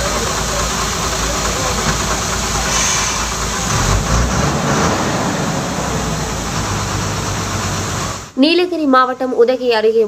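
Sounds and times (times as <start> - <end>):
bus engine idling: 0.0 - 9.9.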